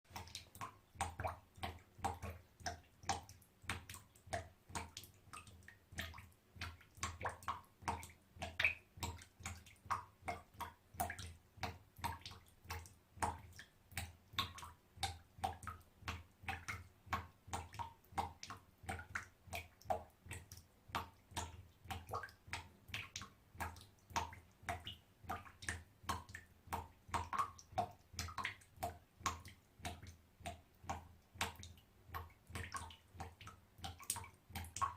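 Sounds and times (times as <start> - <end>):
water dripping into bathtub: 0.1 - 34.9.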